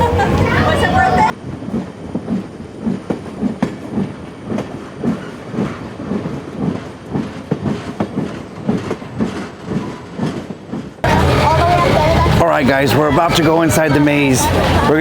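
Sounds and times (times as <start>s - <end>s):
ride train wheels clacking: 0.0s - 15.0s.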